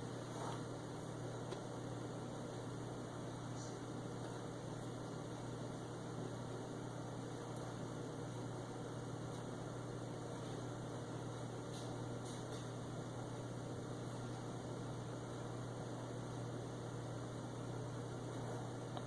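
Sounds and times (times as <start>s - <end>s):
constant hiss: 0.0s - 19.0s
low electrical hum: 0.0s - 19.0s.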